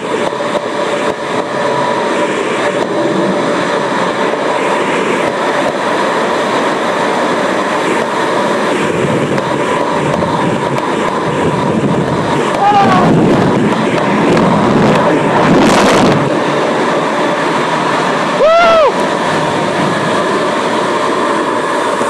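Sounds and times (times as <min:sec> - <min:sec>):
car wash rushing noise: 0:00.0 - 0:22.0
faint high whine: 0:00.0 - 0:22.0.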